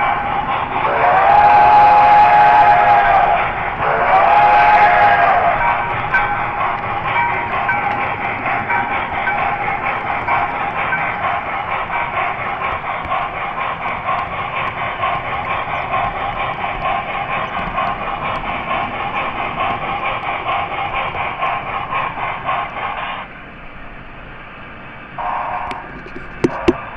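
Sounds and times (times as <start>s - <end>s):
model train wheels clattering: 0.0s - 23.3s, 25.2s - 26.9s.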